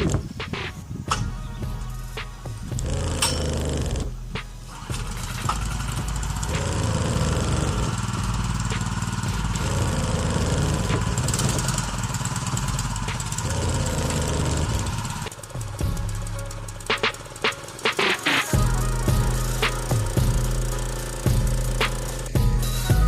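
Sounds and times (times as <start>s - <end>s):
pressure washer engine running: 2.7s - 23.0s.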